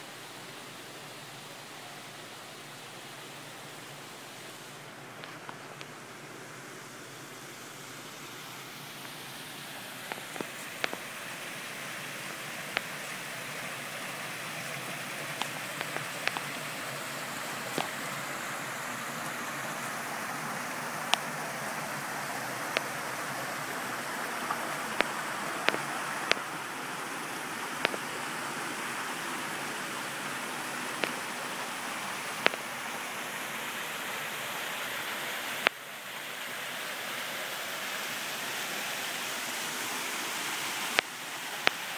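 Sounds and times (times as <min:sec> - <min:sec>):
water rushing over rocks: 0:00.0 - 0:41.9.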